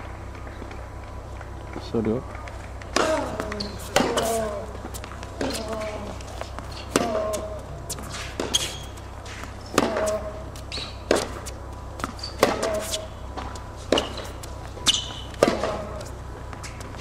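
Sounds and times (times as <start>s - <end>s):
tennis ball bounces: 0.0s - 17.0s
tennis racket hits: 3.0s - 17.0s.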